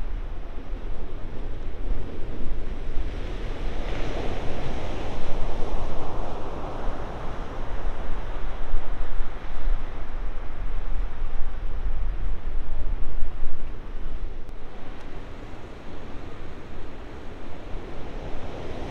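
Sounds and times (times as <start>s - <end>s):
wind rumbling on microphone: 0.0s - 18.9s.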